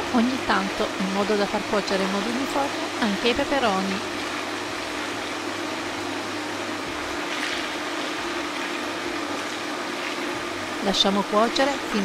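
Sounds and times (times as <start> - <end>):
potatoes frying in hot oil: 0.0 - 12.0.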